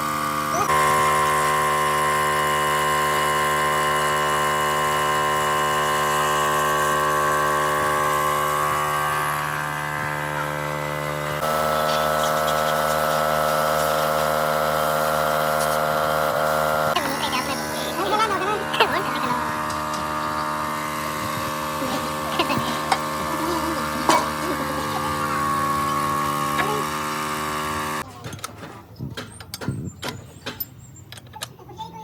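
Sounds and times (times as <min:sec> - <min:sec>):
workshop machine motor running: 0:00.0 - 0:31.0.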